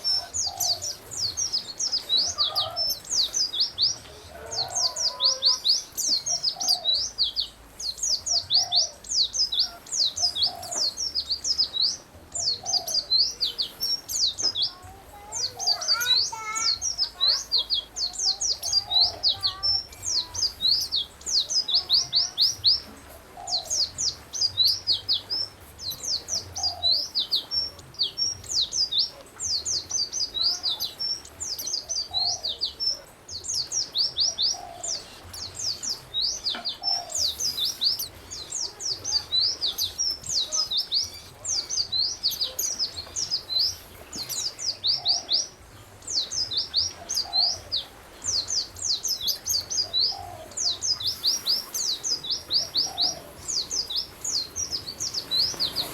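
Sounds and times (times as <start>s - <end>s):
songbirds chirping: 0.0s - 55.9s.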